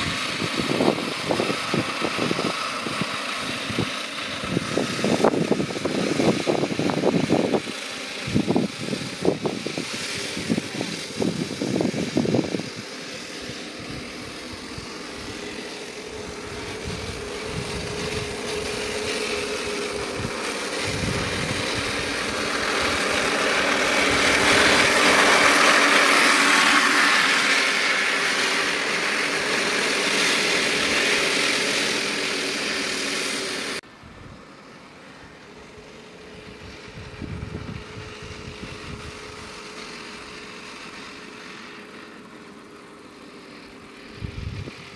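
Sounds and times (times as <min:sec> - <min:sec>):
model tank motor droning: 0:00.0 - 0:44.9.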